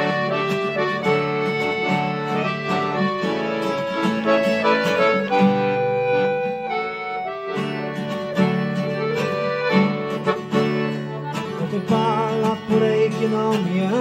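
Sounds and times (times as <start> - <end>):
accordion melody: 0.0 - 14.0
acoustic guitar strumming: 0.0 - 14.0.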